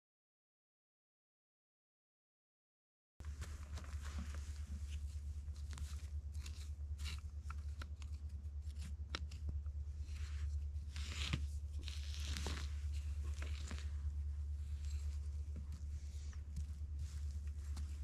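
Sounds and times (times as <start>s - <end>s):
steady low hum: 3.2s - 18.0s
stick raking dry pine needles: 3.2s - 18.0s.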